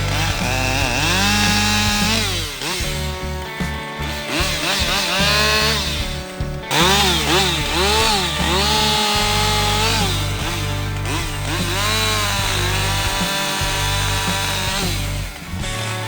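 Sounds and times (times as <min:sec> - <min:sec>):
chainsaw running at high revs: 0:00.0 - 0:16.0.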